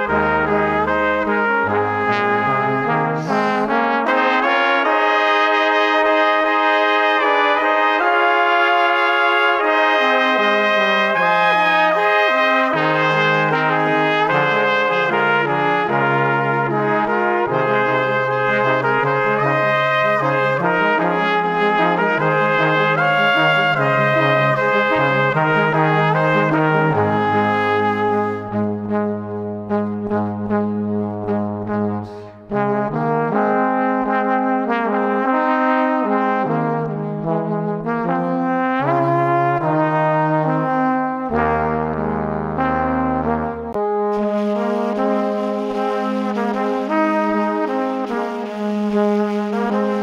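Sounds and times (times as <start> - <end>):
brass instruments playing held notes: 0.0 - 50.0.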